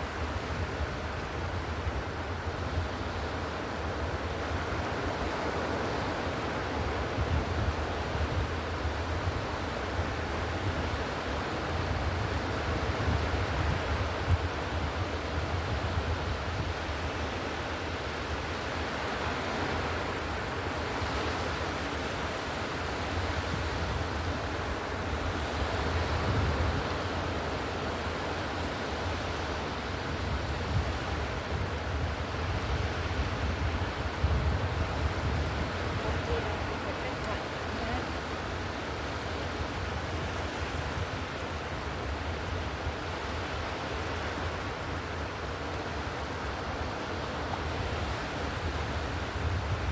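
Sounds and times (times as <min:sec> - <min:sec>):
ocean wave white noise: 0:00.0 - 0:49.9
surf rushing hiss: 0:00.0 - 0:49.9.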